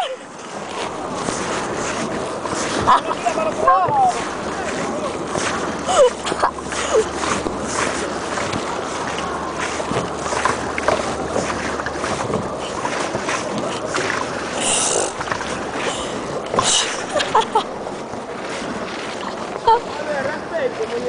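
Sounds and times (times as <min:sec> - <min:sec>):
jet ski water and engine rushing: 0:00.0 - 0:21.0
wind buffeting microphone: 0:00.0 - 0:21.0.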